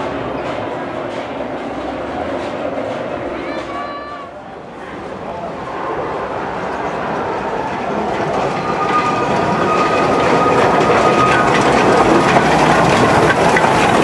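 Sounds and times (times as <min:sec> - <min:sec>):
steam locomotive passing: 0:00.0 - 0:14.0.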